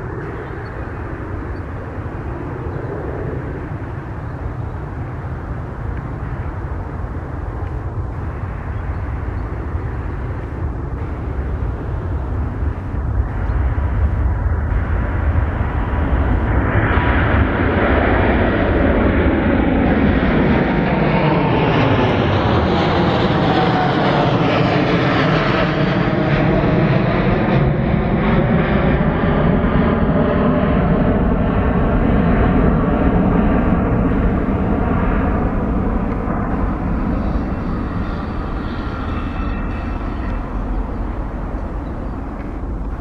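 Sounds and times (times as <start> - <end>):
faint falling jet whine: 0.0 - 43.0
jet airliner taking off: 0.0 - 43.0.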